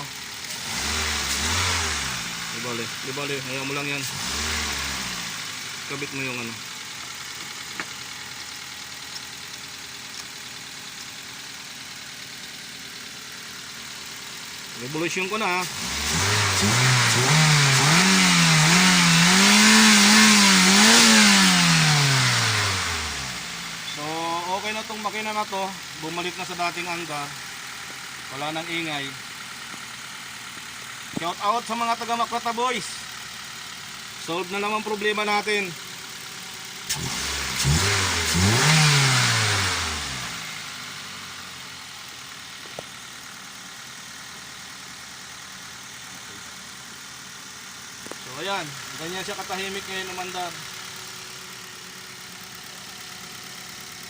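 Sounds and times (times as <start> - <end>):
car engine revving: 0.0 - 8.3, 12.2 - 42.9, 47.8 - 54.0
car engine idling: 0.0 - 54.0.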